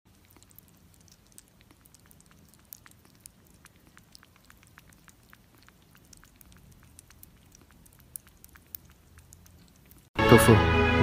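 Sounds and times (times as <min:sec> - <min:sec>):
kitten suckling wet clicks: 0:00.1 - 0:10.2.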